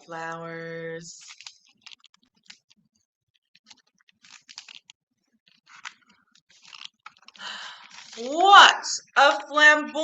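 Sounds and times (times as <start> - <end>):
stiff paper crinkling: 1.1 - 9.6.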